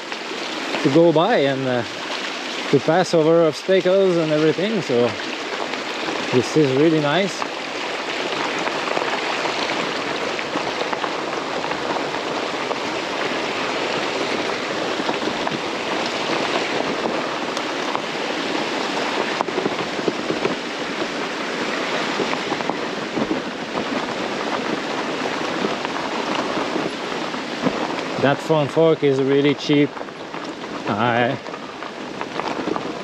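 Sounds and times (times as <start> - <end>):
tyres rushing on gravel: 0.6 - 1.9, 2.6 - 33.0.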